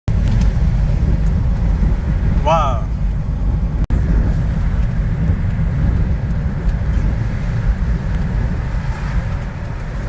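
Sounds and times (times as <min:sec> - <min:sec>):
wind buffeting microphone: 0:00.1 - 0:10.0.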